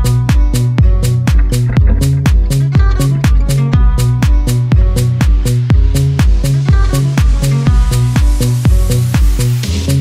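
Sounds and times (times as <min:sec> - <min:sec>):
bass line: 0:00.0 - 0:10.0
kick drum beat: 0:00.0 - 0:10.0.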